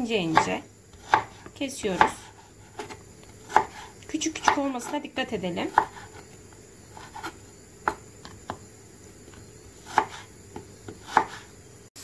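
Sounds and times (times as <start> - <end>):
knife chopping on wooden board: 0.3 - 5.0, 5.7 - 8.6, 9.3 - 11.5.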